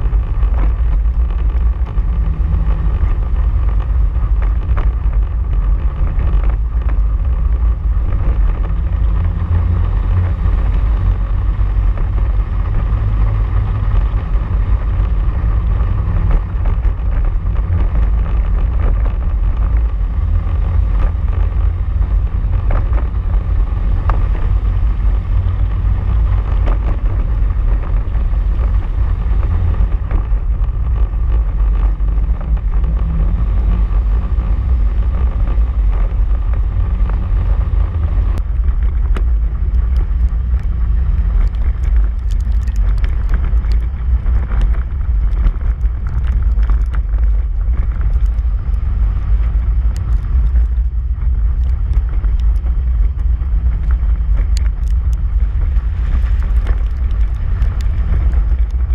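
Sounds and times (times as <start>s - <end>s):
vehicle engine drone: 0.0s - 58.9s
wind buffeting camera: 0.0s - 58.9s.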